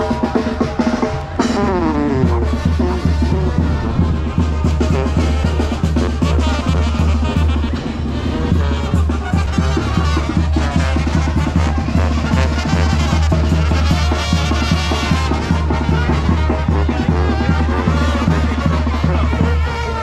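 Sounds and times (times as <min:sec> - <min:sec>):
loud brass band music with drums: 0:00.0 - 0:20.0.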